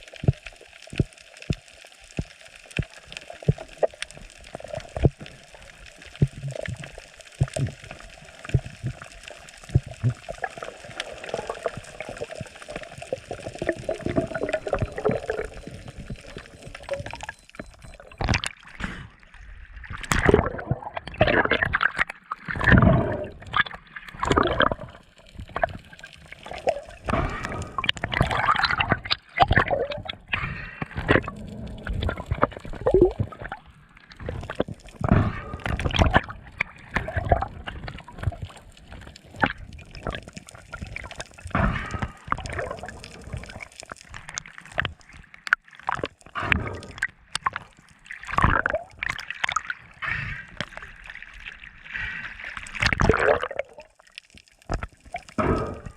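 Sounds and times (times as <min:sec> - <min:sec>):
water gurgling and sloshing: 0:00.0 - 0:55.9
water splashes: 0:00.0 - 0:55.9.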